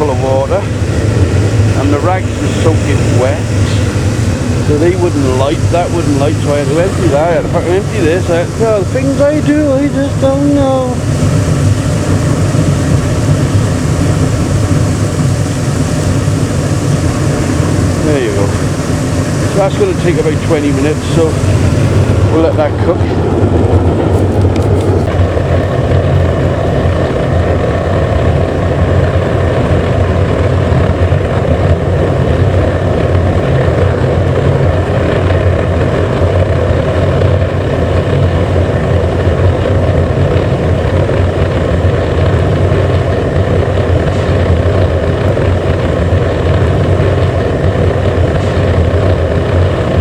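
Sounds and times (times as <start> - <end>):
furnace roaring: 0.0 - 50.0.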